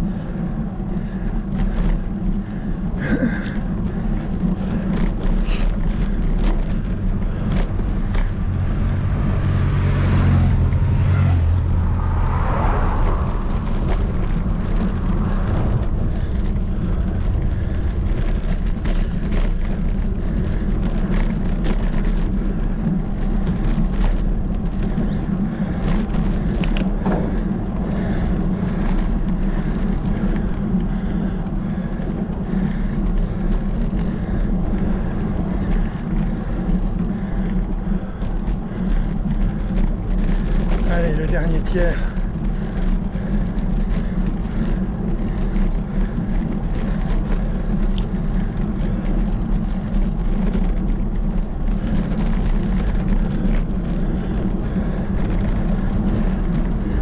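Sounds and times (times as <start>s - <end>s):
bicycle road rumble: 0.0s - 57.0s
car passing: 0.0s - 57.0s
wind: 0.0s - 57.0s.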